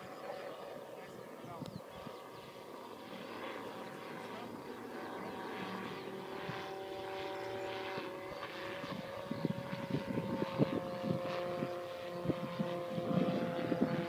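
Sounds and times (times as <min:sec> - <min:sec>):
distant aircraft engine drone: 0:00.0 - 0:14.0.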